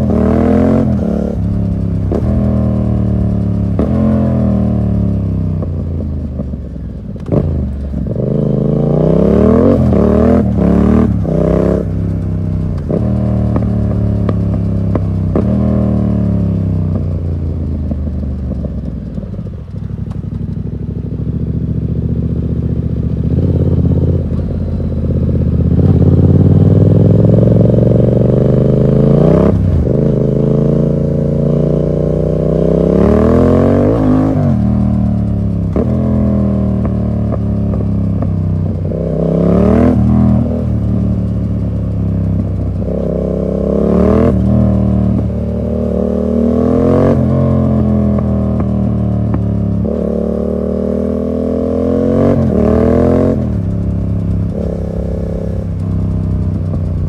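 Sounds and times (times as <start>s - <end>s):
exhaust cracks: 0.0s - 21.4s, 22.1s - 57.0s
motorcycle engine revving: 0.0s - 57.0s.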